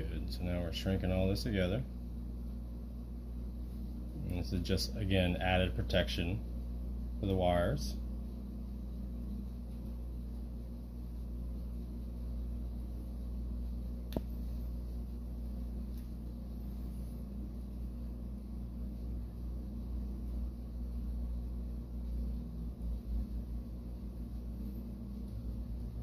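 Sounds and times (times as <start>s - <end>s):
electric motor fan humming: 0.0s - 26.0s.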